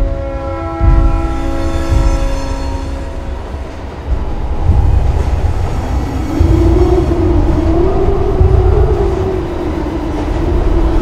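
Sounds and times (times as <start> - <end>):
underground train rumble: 0.0 - 11.0.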